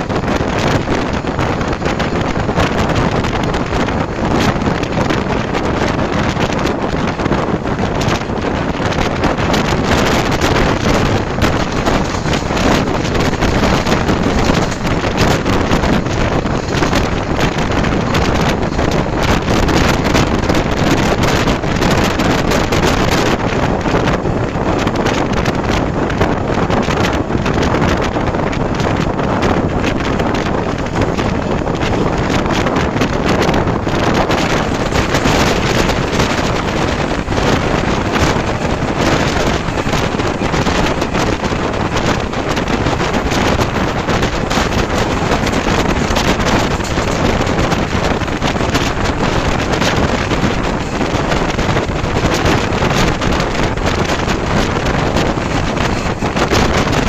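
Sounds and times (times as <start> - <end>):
moving train running noise: 0.0 - 57.0
wind buffeting microphone: 0.0 - 57.0.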